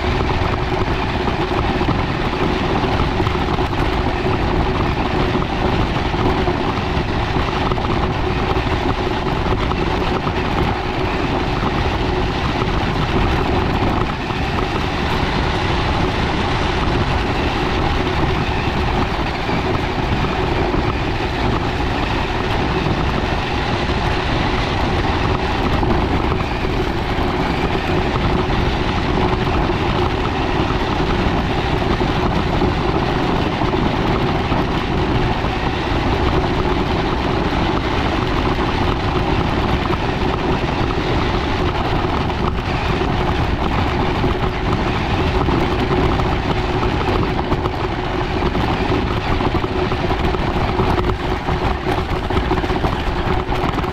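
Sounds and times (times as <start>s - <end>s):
tyre and chassis noise: 0.0s - 53.9s.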